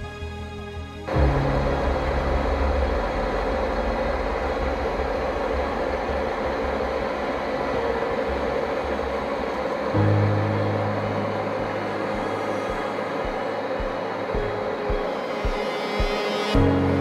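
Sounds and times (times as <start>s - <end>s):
lathe humming and droning: 1.0s - 17.0s.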